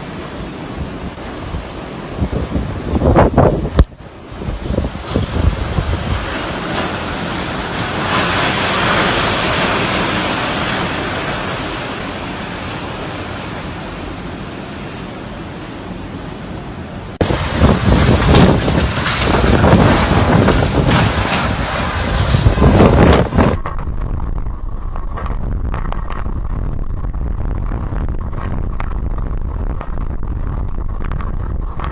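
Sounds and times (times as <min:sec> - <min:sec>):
wind buffeting microphone: 0:00.0 - 0:13.4, 0:17.1 - 0:31.9
strong wind gusts: 0:00.0 - 0:31.9.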